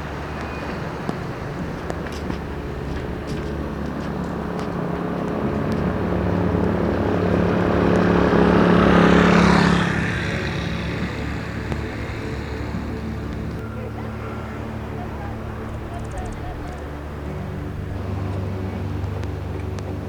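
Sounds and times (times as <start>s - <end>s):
motor engine running: 0.0s - 20.0s
vehicle passing close by: 0.0s - 20.0s.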